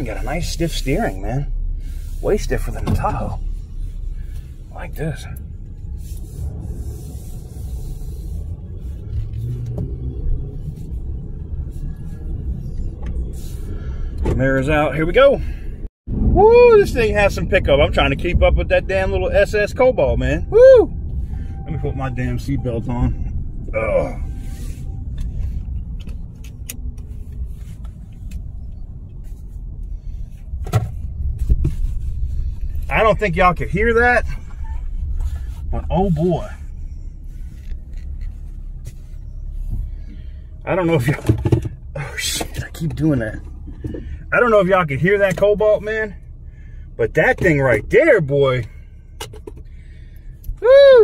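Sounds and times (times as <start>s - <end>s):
truck engine rumble: 0.0s - 51.0s.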